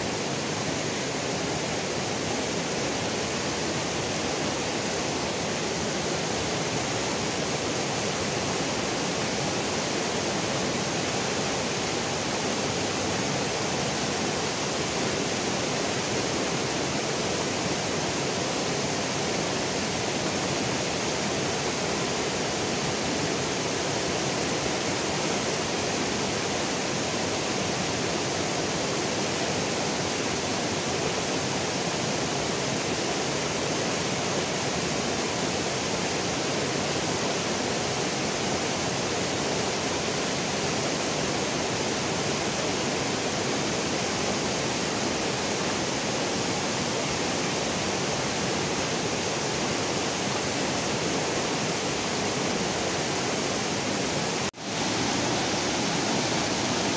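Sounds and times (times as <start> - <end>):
river rushing over rapids: 0.0 - 56.9.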